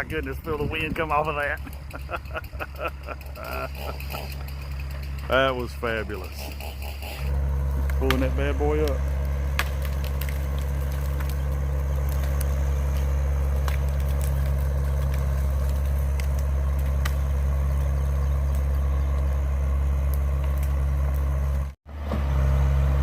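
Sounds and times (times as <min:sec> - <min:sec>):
excavator diesel engine droning: 0:00.0 - 0:23.0
sharp cracks: 0:01.4 - 0:21.8.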